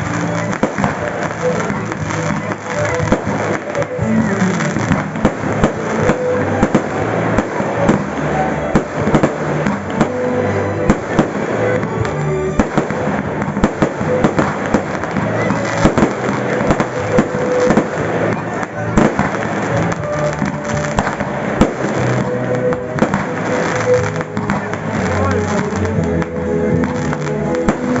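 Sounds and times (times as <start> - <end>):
fireworks bangs and pops: 0.0 - 28.0
music playing: 0.0 - 28.0.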